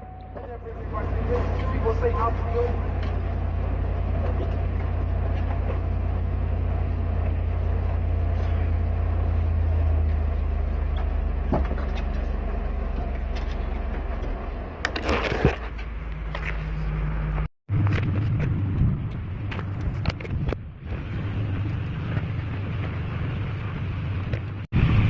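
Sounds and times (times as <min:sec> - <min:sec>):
vehicle low rumble: 0:00.0 - 0:25.0.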